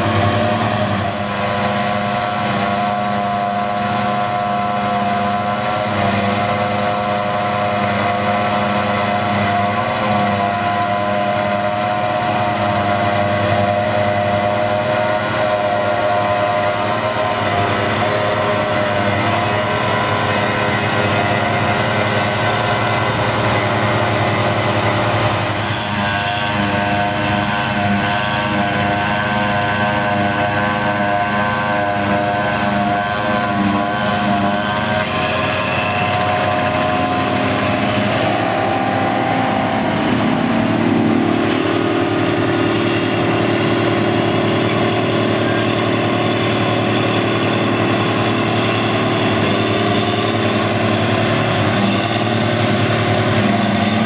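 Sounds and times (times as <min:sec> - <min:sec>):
harvester engine drone: 0:00.0 - 0:54.0
tractor engine: 0:00.0 - 0:54.0.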